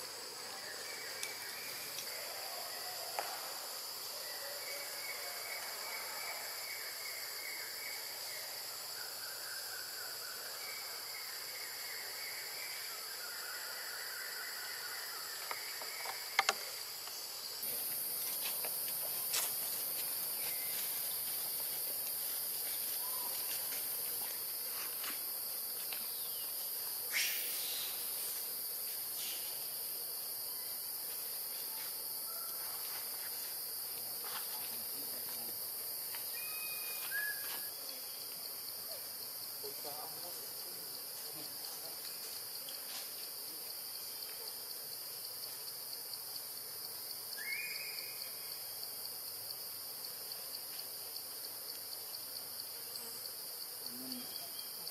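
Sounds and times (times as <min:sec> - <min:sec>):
insects buzzing: 0:00.0 - 0:54.9.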